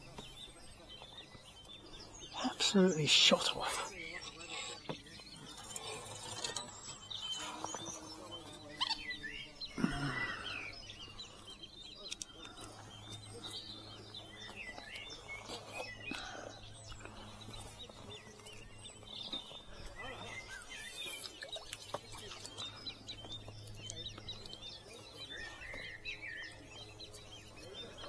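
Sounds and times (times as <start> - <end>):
small birds singing and twittering: 0.0 - 28.0.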